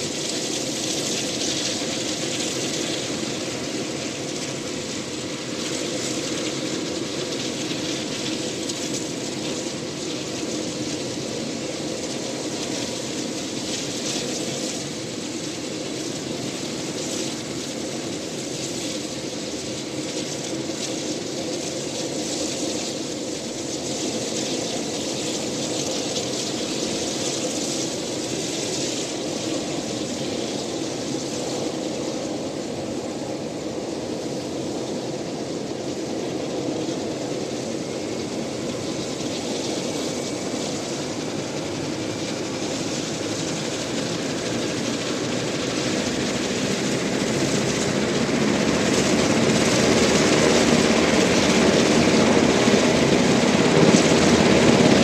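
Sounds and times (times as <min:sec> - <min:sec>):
helicopter engine and rotor noise: 0:00.0 - 0:55.0.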